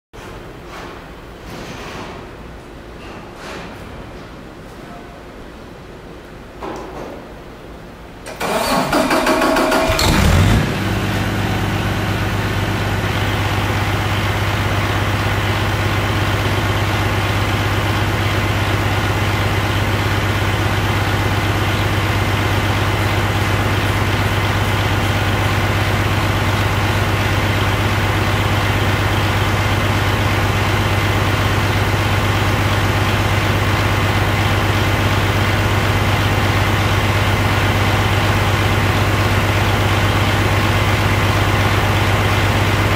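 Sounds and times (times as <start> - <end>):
diesel engine starting and idling: 8.2 - 42.9.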